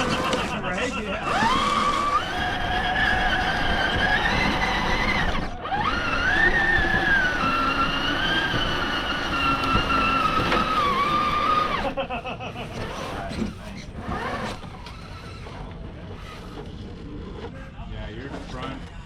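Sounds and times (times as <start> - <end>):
electric motor whining: 0.0 - 18.8.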